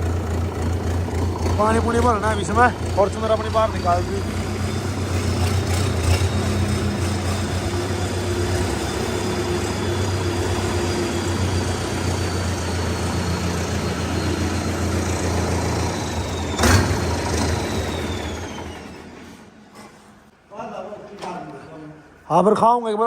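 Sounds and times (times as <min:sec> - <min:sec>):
tractor diesel engine running: 0:00.0 - 0:19.4.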